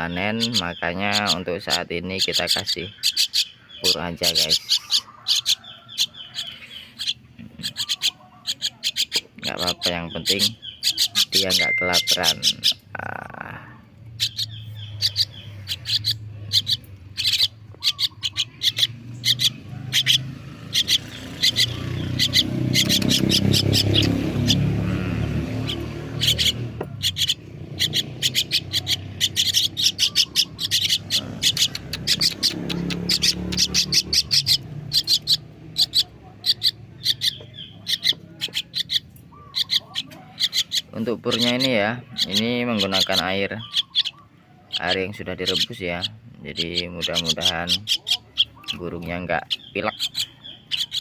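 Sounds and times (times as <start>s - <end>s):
bird chick begging calls: 0.0s - 13.5s, 14.1s - 51.0s.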